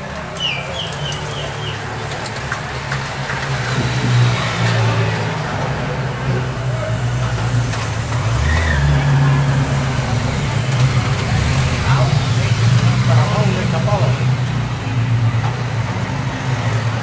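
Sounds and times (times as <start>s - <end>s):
car engines passing: 0.0s - 17.0s
motorcycles passing: 0.0s - 17.0s.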